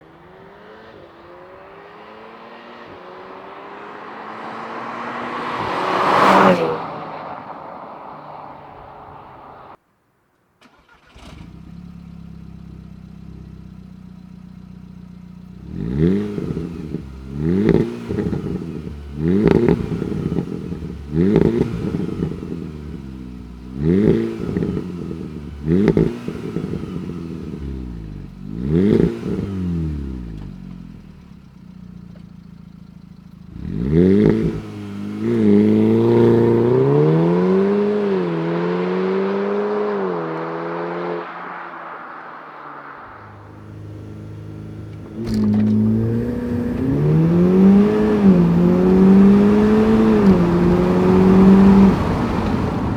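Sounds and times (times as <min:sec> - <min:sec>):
car engine revving: 0:00.0 - 0:09.8, 0:10.6 - 0:52.9.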